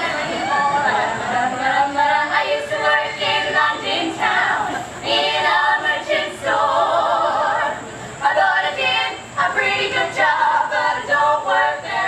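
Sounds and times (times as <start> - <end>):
women singing in harmony: 0.0 - 12.0.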